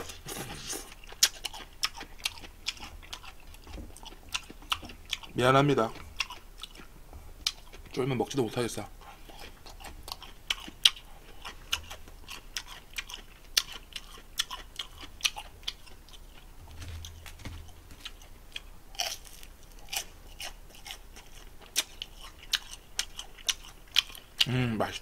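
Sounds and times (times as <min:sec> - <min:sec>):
person chewing crunchy food: 0:00.0 - 0:08.0, 0:09.0 - 0:24.5.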